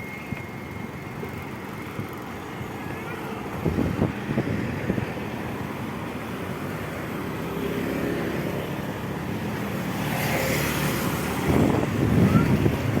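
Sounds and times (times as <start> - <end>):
rumble of vehicle engines: 0.0 - 13.0.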